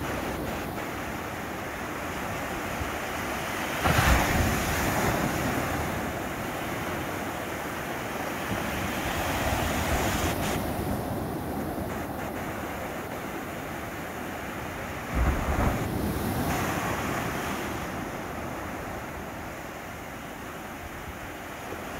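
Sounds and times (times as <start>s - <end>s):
small waves breaking on sand: 0.0s - 21.9s
wave crashing: 0.0s - 21.9s.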